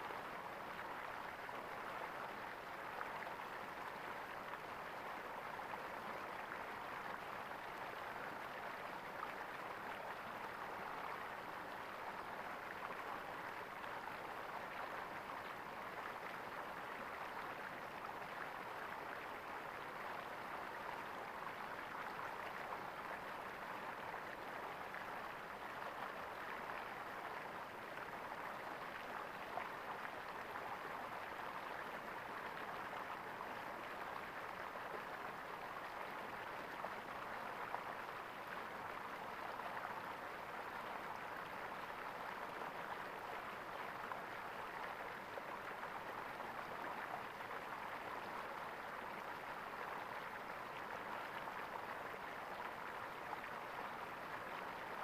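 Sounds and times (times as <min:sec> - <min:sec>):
flowing water gurgling: 0:00.0 - 0:55.0.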